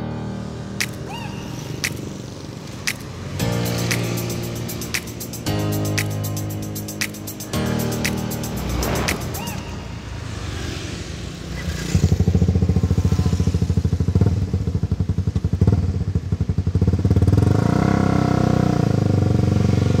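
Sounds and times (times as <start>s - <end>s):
street traffic: 0.5s - 20.0s.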